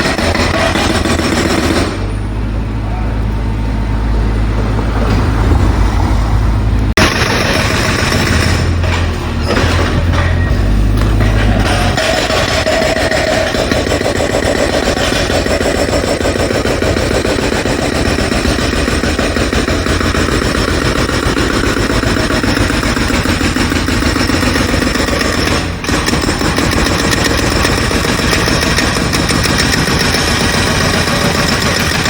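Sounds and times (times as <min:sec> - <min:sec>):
jackhammer hammering: 0:00.0 - 0:02.2, 0:07.0 - 0:10.2, 0:10.9 - 0:32.0.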